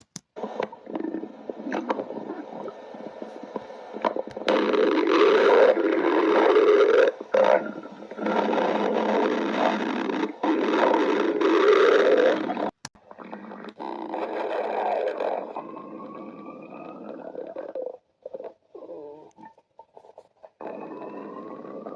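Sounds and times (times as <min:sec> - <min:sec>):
stomach growling: 0:00.4 - 0:21.9.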